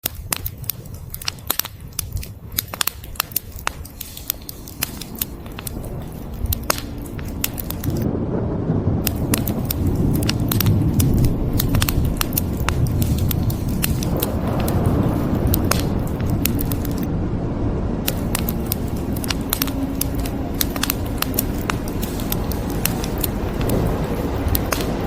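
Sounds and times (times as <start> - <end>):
wood fire crackling and popping: 0.0 - 8.2, 8.8 - 17.1, 18.0 - 25.0
thunder rumbling: 0.4 - 25.0.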